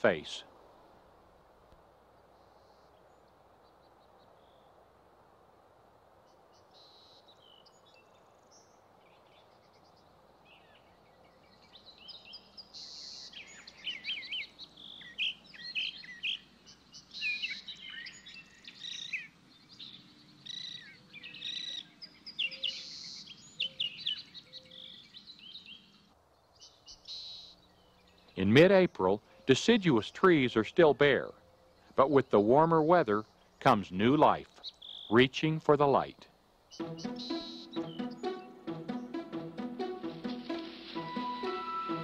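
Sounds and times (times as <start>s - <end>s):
songbirds singing: 2.1s - 4.9s, 6.2s - 40.0s.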